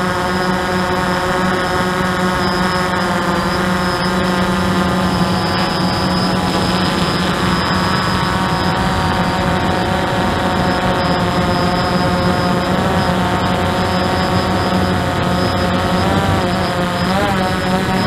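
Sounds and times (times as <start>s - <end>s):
drone motors whirring: 0.0s - 18.0s.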